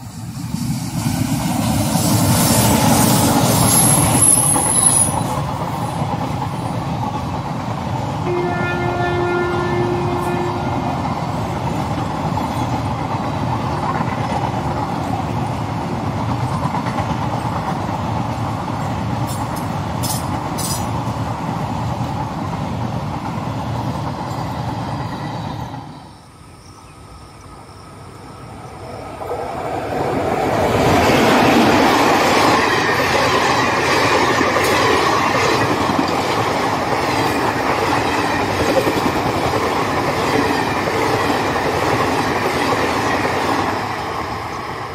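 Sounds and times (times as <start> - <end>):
passenger train passing at speed: 0.0 - 44.9
train wheels rolling on track: 0.0 - 44.9.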